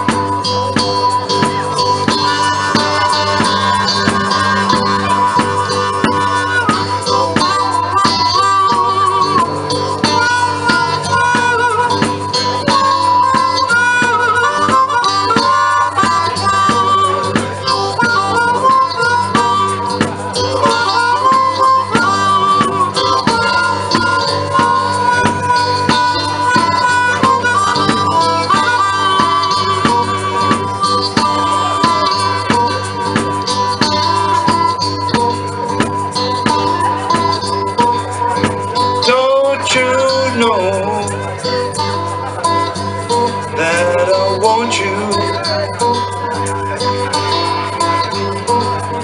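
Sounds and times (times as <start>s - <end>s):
band with guitar and drums: 0.0s - 49.0s
blues harmonica solo: 0.0s - 49.0s.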